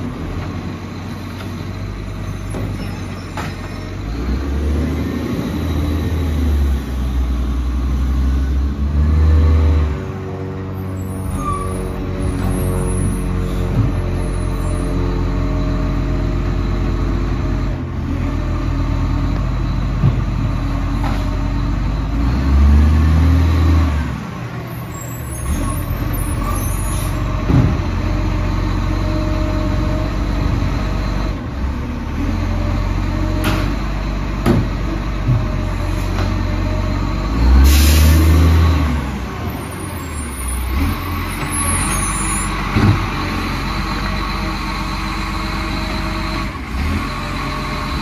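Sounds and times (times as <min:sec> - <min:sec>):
garbage truck diesel engine: 0:00.0 - 0:48.0.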